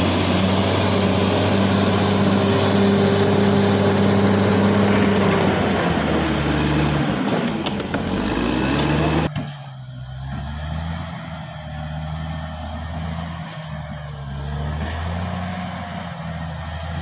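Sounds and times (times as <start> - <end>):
bulldozer diesel engine rattling: 0.0 - 17.0.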